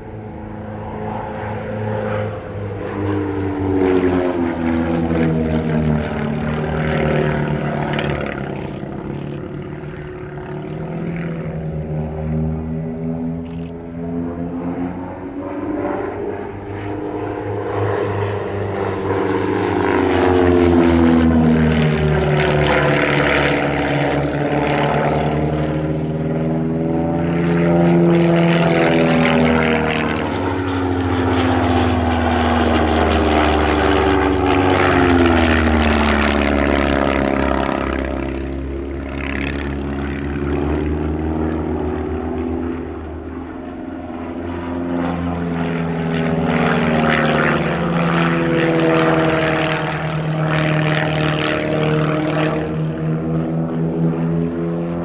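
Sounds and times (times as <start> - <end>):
propeller aircraft engine droning: 0.0 - 55.0.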